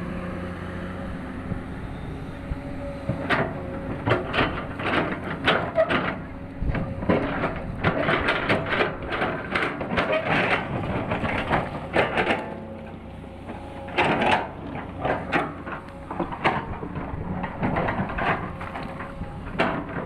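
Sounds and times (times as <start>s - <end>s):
excavator engine running: 0.0s - 20.0s
metallic clanks and scrapes: 3.1s - 20.0s.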